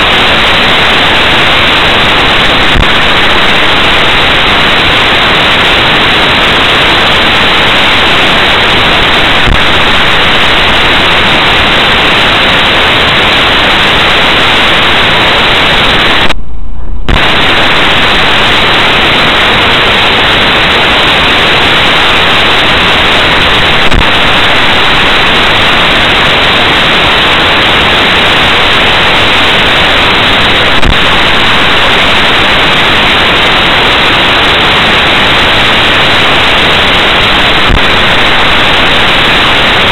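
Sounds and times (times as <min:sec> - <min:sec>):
steady noise hiss: 0:00.0 - 0:39.9.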